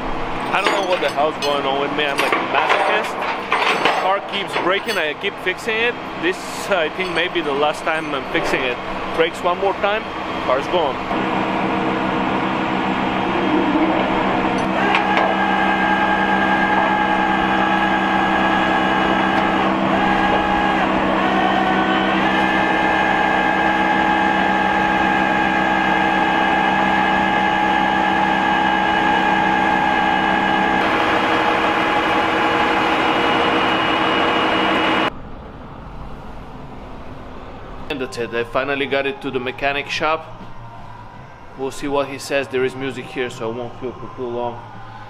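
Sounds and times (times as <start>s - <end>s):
winch mechanical whine: 0.0s - 45.0s.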